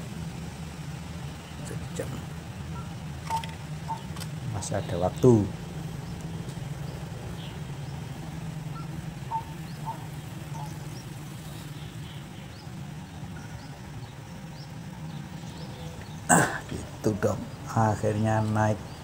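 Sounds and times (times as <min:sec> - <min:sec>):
steady low hum: 0:00.0 - 0:19.0
bird chirps: 0:01.3 - 0:19.0.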